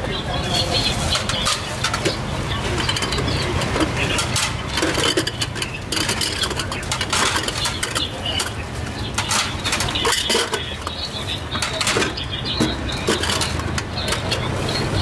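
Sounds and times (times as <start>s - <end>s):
clinking dishes and metal: 0.0s - 15.0s
low rumble of street stalls: 0.0s - 15.0s.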